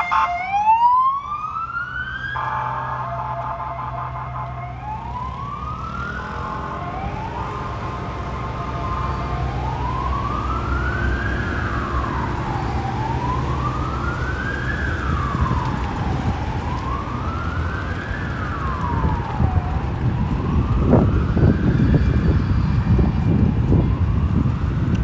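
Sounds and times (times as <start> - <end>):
siren wailing: 0.0 - 25.0.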